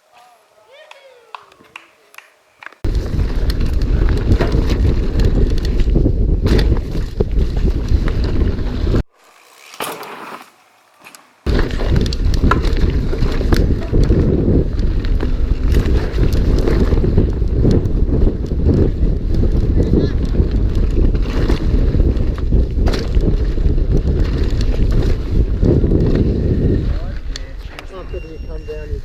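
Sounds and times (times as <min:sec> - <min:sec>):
wind rumble on microphone: 0:02.8 - 0:09.1, 0:11.5 - 0:29.0
mountain bike rattling on rough trail: 0:02.9 - 0:28.0.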